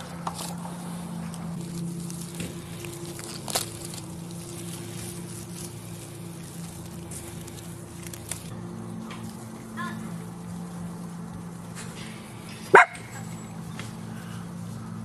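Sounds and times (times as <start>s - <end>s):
dry leaf crackling: 0.0s - 15.0s
grass rustling: 0.0s - 15.0s
steady low hum: 0.0s - 15.0s.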